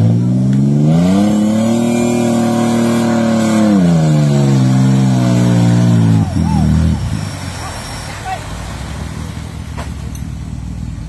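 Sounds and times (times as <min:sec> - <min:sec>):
off-road vehicle engine revving: 0:00.0 - 0:11.0
vehicle pushing through muddy water: 0:00.0 - 0:11.0.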